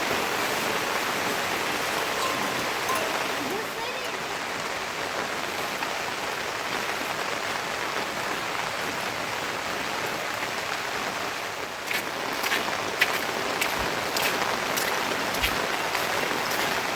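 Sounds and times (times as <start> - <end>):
steady rain: 0.0 - 16.9.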